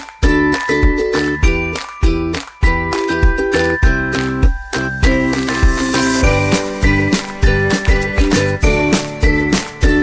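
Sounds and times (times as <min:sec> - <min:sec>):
music with tinkling melody: 0:00.0 - 0:10.0.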